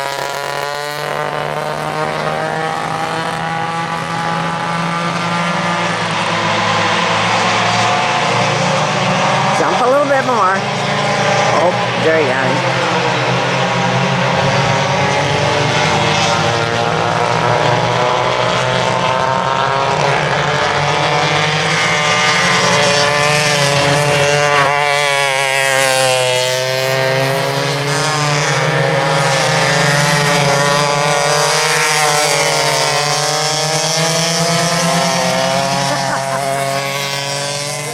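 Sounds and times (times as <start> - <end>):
go-kart engines racing: 0.0 - 37.9.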